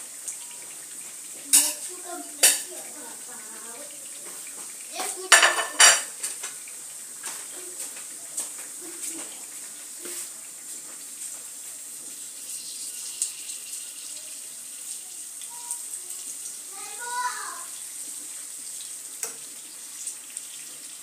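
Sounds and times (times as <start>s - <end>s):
sausages sizzling in a pan: 0.0s - 21.0s.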